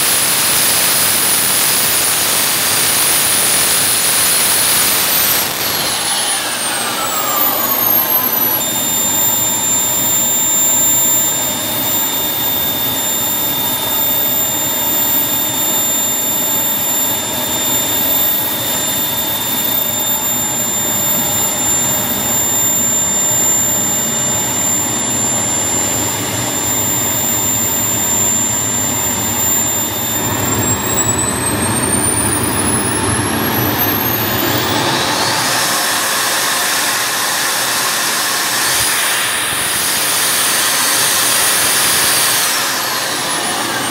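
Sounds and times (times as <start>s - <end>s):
exhaust rush: 0.0s - 43.9s
jet turbine whine: 0.0s - 43.9s.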